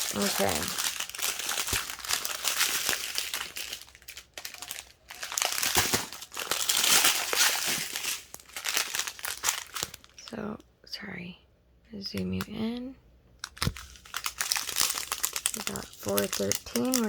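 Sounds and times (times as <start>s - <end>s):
plastic packaging crinkling: 0.0s - 10.4s, 13.4s - 17.0s.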